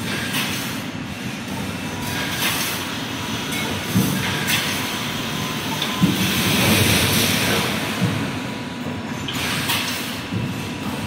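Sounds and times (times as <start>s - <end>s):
steady machine noise: 0.0s - 11.0s.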